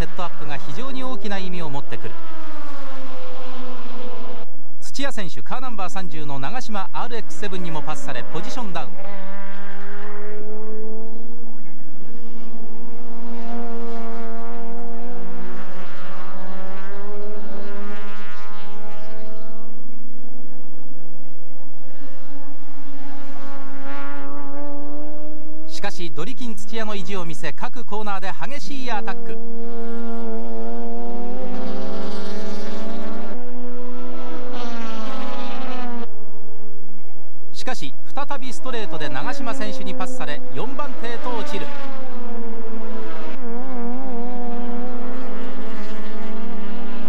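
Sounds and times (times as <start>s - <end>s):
race car engines running hard: 0.0s - 4.7s, 5.4s - 37.3s, 37.9s - 47.0s.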